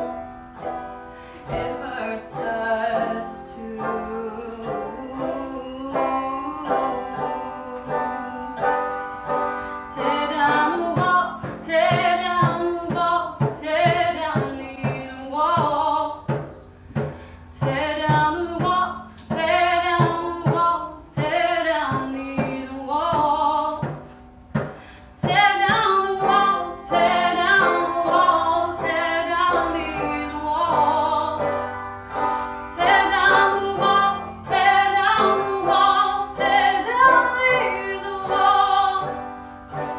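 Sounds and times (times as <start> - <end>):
banjo plucked notes: 0.0 - 39.9
woman singing folk song: 0.0 - 39.9.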